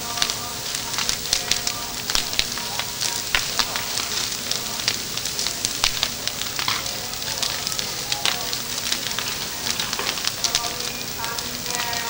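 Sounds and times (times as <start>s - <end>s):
bonfire flame hissing: 0.0s - 12.0s
burning wood crackling and popping: 0.0s - 12.0s.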